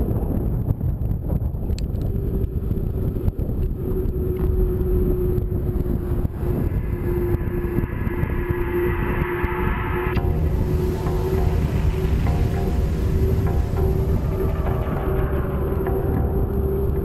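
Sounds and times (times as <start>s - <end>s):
wind buffeting microphone: 0.0s - 17.0s
road rumble: 1.3s - 17.0s
steady hum: 2.2s - 17.0s.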